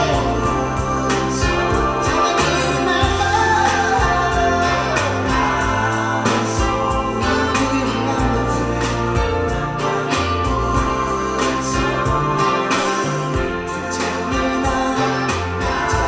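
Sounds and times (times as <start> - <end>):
drum beat: 0.0 - 15.0
bass line: 0.0 - 16.0
singing: 0.0 - 16.0.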